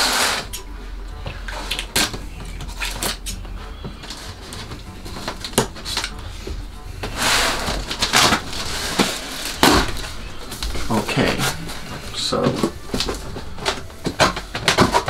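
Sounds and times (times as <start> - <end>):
cardboard and tape rustling: 0.0 - 15.0.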